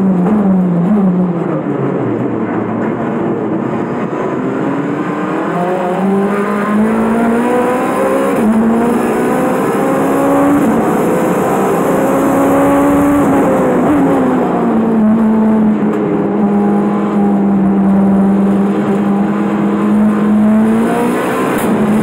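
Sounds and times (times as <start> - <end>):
car engine revving at full throttle: 0.0 - 22.0.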